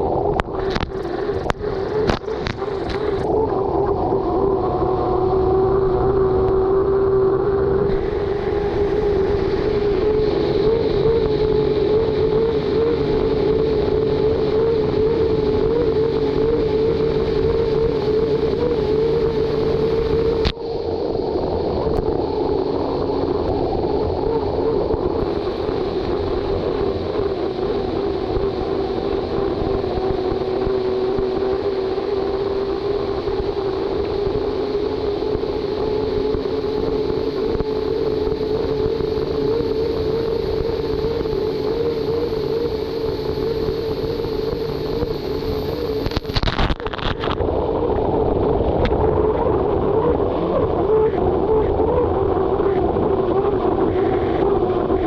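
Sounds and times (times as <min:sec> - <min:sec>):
rush of wind and water: 0:00.0 - 0:55.0
turbine engine whine: 0:00.0 - 0:55.0.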